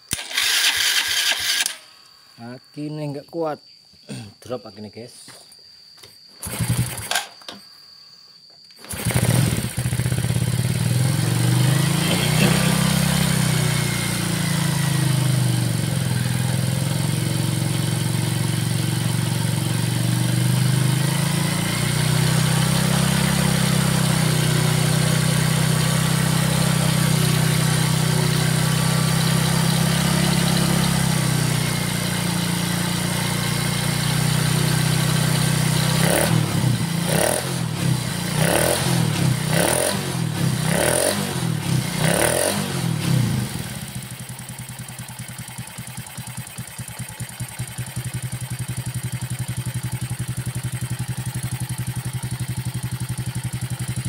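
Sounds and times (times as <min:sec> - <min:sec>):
motorcycle engine revving: 0:00.1 - 0:01.8, 0:06.4 - 0:07.3, 0:08.8 - 0:54.0.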